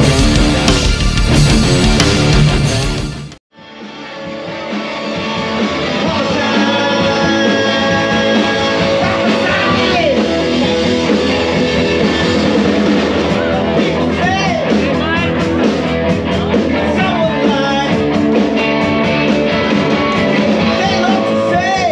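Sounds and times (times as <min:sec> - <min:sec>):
live rock band: 0:00.0 - 0:21.9
person singing: 0:03.8 - 0:21.9.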